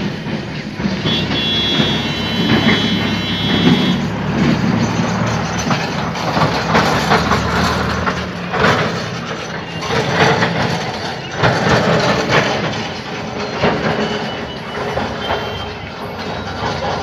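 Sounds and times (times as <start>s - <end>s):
train engine drone: 0.0s - 17.0s.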